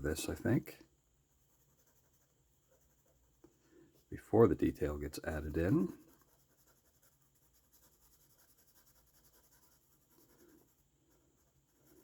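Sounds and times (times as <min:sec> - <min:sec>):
pencil scratching on paper: 0:01.2 - 0:12.0.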